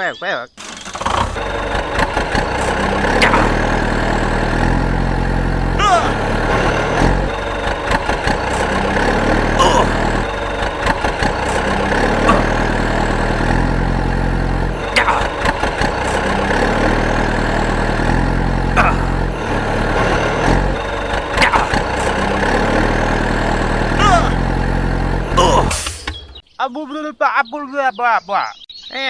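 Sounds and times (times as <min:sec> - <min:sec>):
engine idling: 0:00.6 - 0:26.4.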